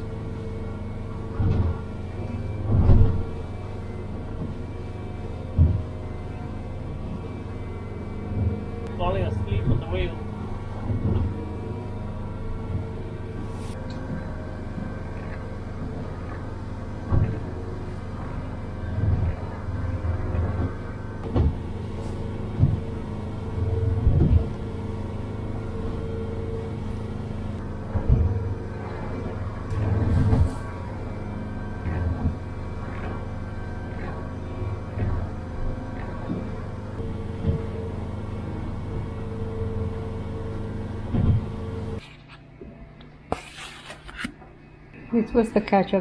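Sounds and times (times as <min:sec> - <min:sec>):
boat engine humming: 0:00.0 - 0:46.0
dull low thumps: 0:01.1 - 0:39.9.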